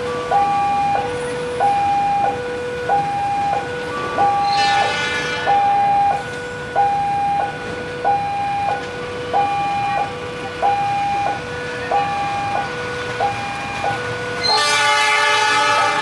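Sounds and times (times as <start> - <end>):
two-tone crossing alarm: 0.0 - 16.0.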